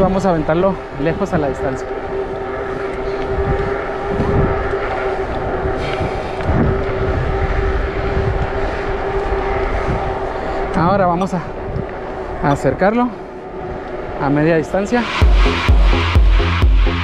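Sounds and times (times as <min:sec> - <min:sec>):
steady mechanical hum: 0:00.0 - 0:15.8
wind rumble on microphone: 0:00.0 - 0:17.0.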